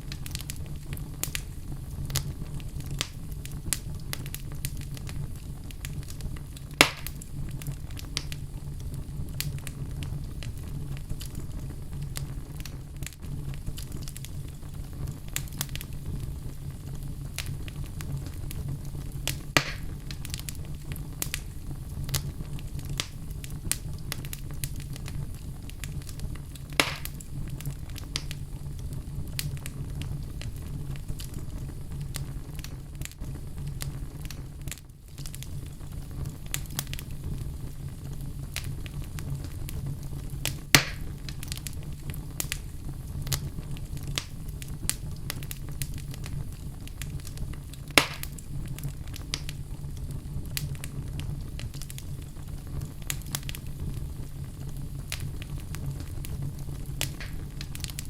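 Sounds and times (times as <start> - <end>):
fire crackling: 0.0 - 58.0
fire flames rumbling: 0.0 - 58.0
loud fire pops: 0.0 - 58.0.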